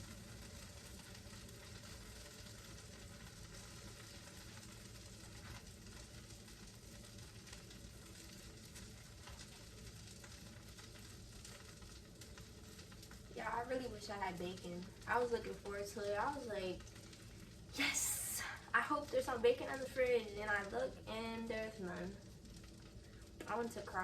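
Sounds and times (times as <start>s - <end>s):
batter sizzling in a pan: 0.0s - 24.0s.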